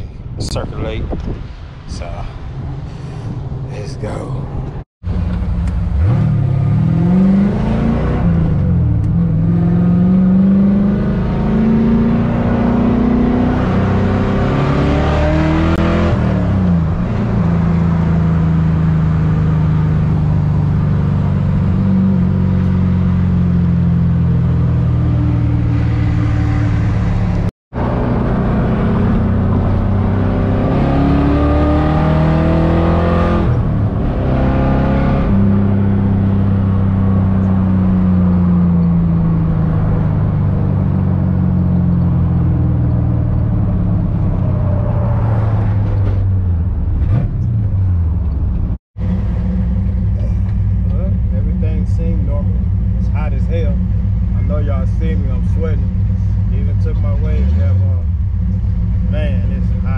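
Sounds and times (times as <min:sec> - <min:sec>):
car engine accelerating through gears: 0:05.1 - 0:59.9.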